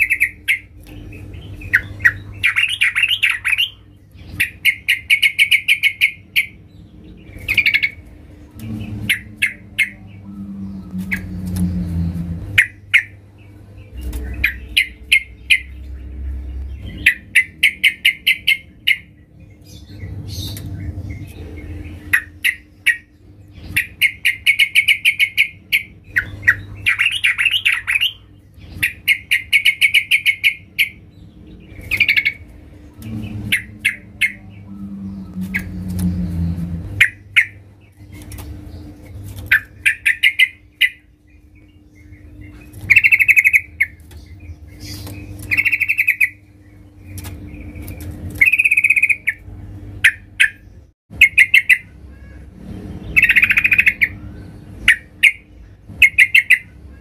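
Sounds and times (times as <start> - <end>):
bird rapid chattering calls: 0.0 - 6.6, 8.6 - 13.2, 13.8 - 19.1, 19.8 - 31.0, 31.7 - 49.4, 50.0 - 54.2, 54.8 - 56.8.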